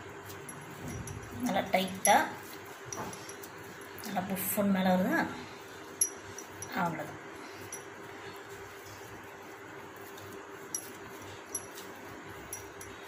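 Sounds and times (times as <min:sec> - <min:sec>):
faint steady hum: 0:00.0 - 0:13.0
hands rolling dough in steel bowl: 0:00.0 - 0:13.0.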